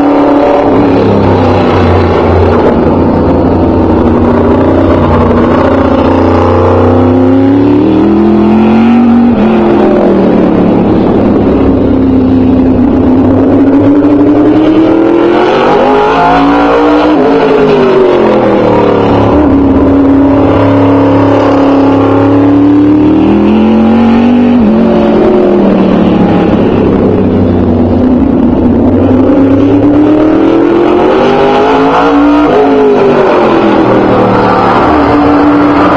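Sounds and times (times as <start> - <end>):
race car engine: 0.0 - 35.9.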